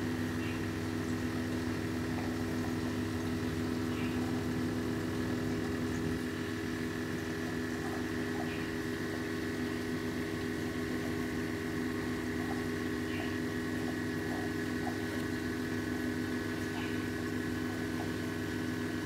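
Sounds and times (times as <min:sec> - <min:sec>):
aquarium pumps humming: 0:00.0 - 0:19.0.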